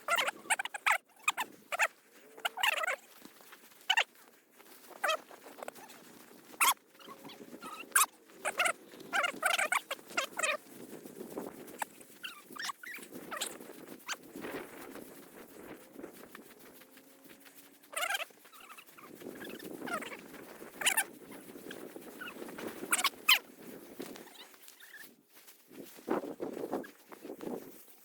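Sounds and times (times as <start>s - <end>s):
footsteps through dry grass: 0.0s - 28.0s.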